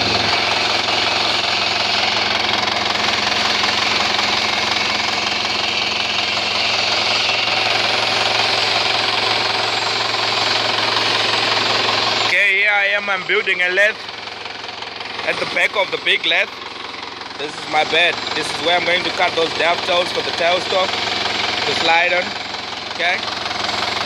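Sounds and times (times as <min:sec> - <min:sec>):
low machine hum: 0:00.0 - 0:24.0
milling machine rattling: 0:00.0 - 0:24.0.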